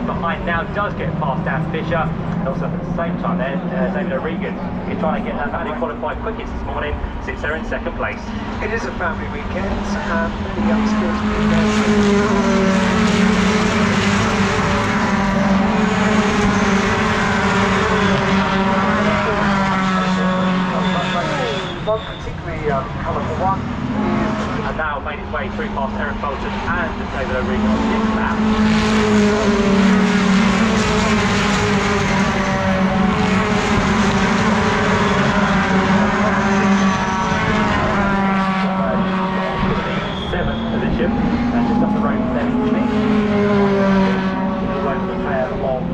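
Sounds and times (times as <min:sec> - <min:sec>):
truck engine at high revs: 0:00.0 - 0:45.9.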